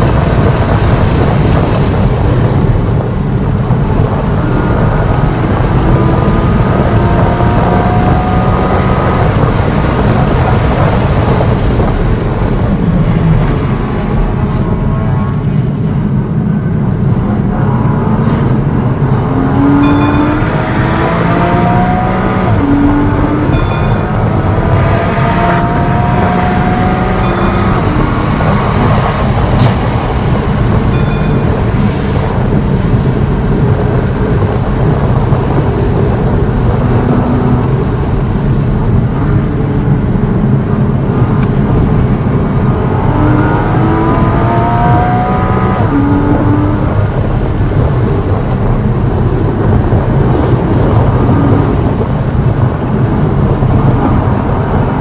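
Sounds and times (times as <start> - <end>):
car engine accelerating: 0.0 - 55.0
tyre and wind noise: 0.0 - 55.0.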